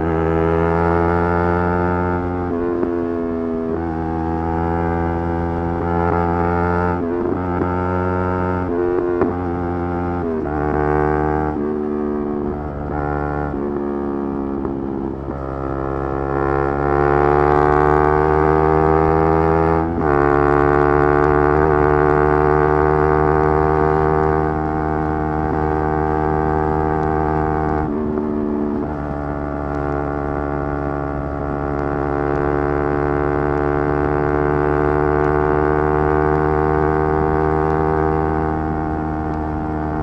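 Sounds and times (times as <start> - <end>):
motorcycle engine revving high: 0.0 - 40.0.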